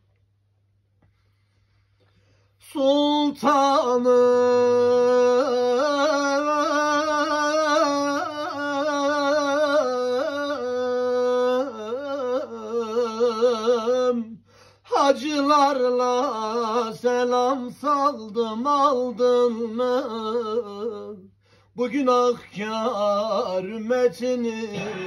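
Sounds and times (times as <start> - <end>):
man singing unaccompanied: 2.6 - 25.0.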